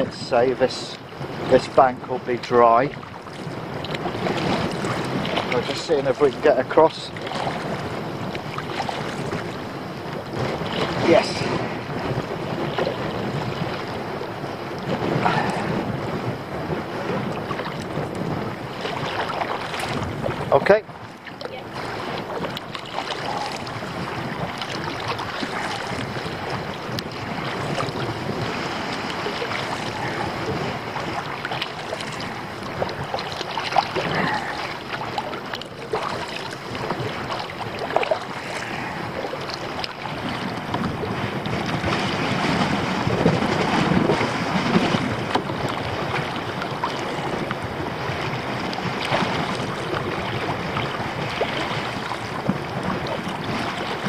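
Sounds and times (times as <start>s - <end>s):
water splashing around kayak: 0.0s - 54.0s
wind on microphone: 0.0s - 54.0s.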